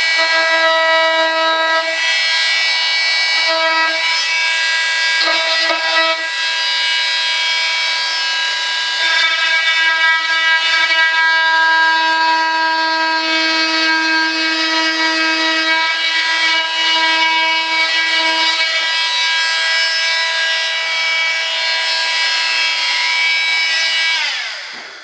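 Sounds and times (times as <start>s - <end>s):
electric sander whining: 0.0s - 25.0s.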